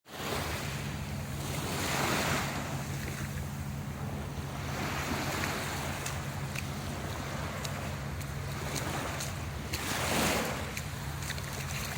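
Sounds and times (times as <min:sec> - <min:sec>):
sea surf washing onto shore: 0:00.1 - 0:11.9
wind rumbling on microphone: 0:00.2 - 0:11.9.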